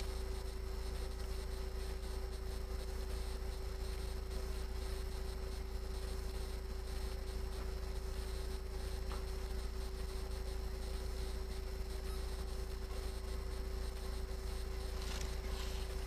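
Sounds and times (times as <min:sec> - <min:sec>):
constant humming tone: 0:00.0 - 0:16.0
steady low rumble: 0:00.0 - 0:16.0.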